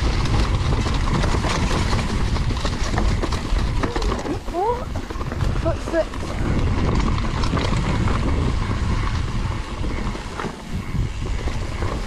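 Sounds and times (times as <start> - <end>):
bike clicks and knocks: 0.0 - 12.0
wind rushing over microphone: 0.0 - 12.0.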